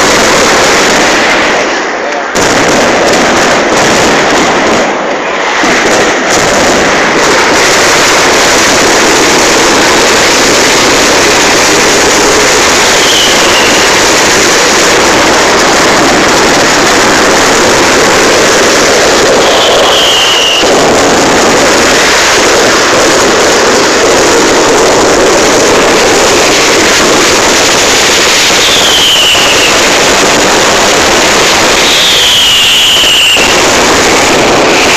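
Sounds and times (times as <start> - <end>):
fireworks exploding: 0.0 - 34.9
falling firework whistles: 5.4 - 34.9.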